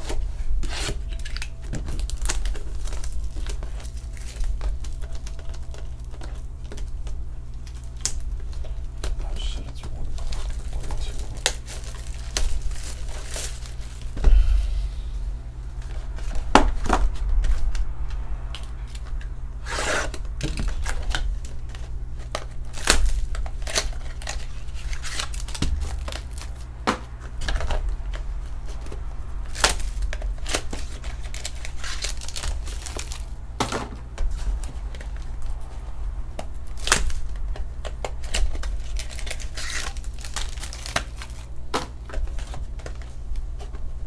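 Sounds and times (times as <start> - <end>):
plastic wrapping crinkling and tearing: 0.0 - 14.2, 20.1 - 44.0
steady low hum: 0.0 - 44.0.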